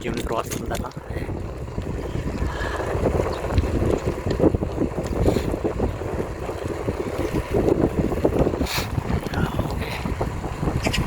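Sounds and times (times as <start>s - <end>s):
bicycle ride hum: 0.0s - 11.0s
wind buffeting microphone: 0.0s - 11.0s.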